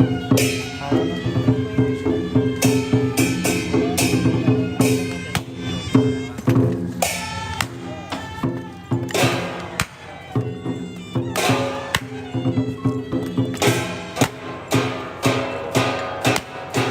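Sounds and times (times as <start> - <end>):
drums and percussion: 0.0 - 16.9.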